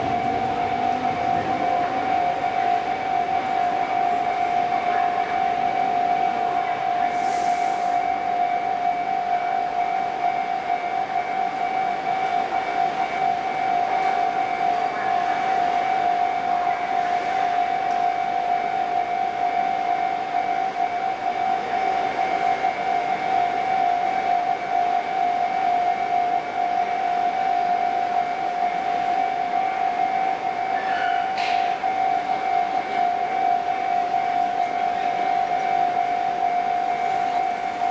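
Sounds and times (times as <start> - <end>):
freight train on rails: 0.0 - 37.9
level crossing alarm tone: 0.0 - 37.9.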